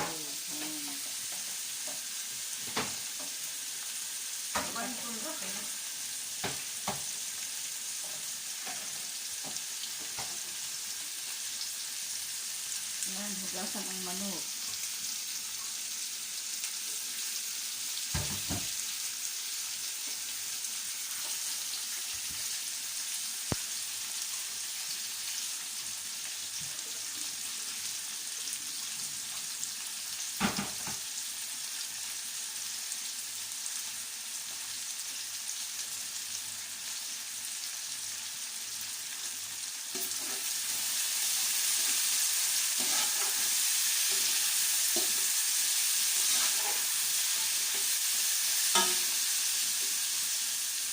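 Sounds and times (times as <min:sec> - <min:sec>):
onion and garlic sizzling in oil: 0:00.0 - 0:50.9.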